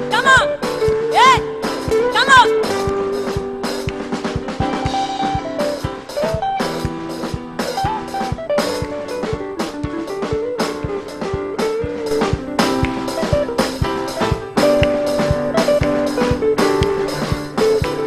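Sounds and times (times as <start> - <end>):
drum kit beat: 0.0 - 18.0
live band instrumental: 0.0 - 18.0.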